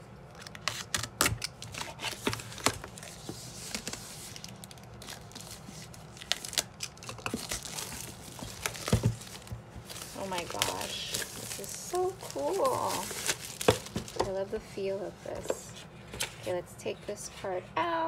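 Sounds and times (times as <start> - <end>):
plastic shrink wrap crinkling: 0.3 - 16.5.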